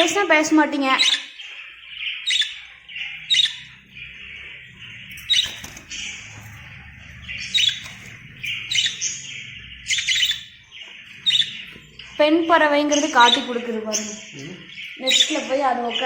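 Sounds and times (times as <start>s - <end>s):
bird calls from a phone: 0.0s - 16.0s
lovebirds chirping: 0.0s - 16.0s.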